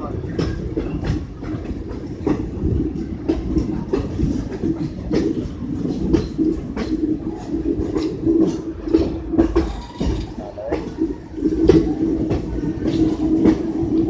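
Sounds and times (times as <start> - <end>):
train wheels clacking on rails: 0.0 - 14.0.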